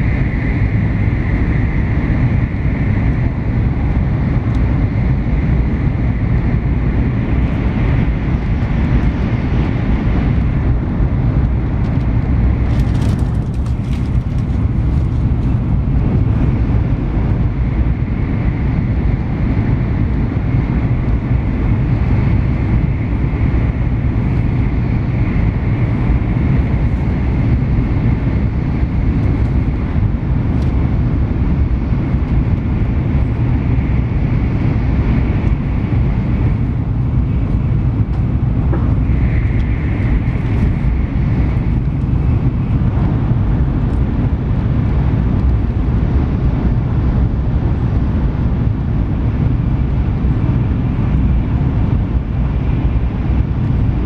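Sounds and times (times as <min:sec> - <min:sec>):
train cabin running rumble: 0:00.0 - 0:54.0.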